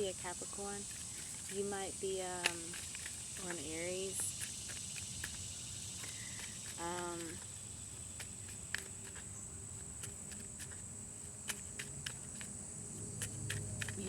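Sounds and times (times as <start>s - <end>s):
low background hum: 0.0s - 14.0s
cards clicking and tapping: 2.3s - 14.0s.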